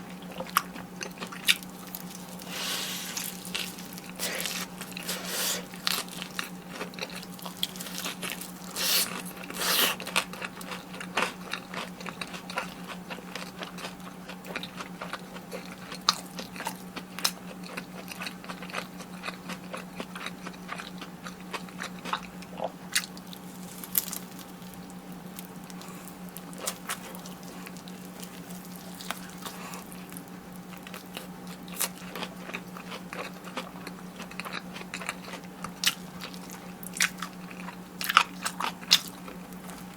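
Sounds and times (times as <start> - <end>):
crunchy food bites and chewing: 0.0 - 39.9
steady low hum: 0.0 - 39.9.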